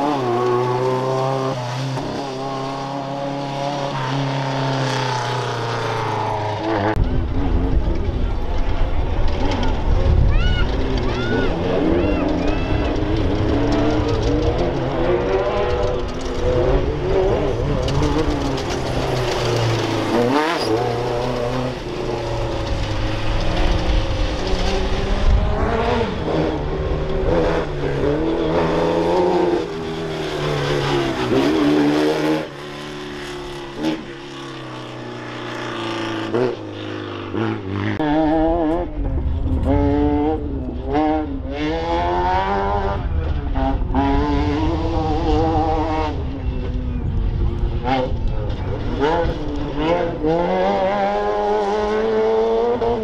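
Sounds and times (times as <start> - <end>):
race car engines revving: 0.0 - 53.0.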